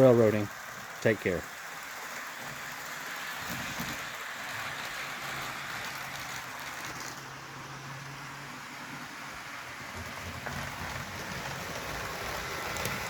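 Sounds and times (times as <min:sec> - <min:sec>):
model train motors whirring: 0:00.0 - 0:13.0.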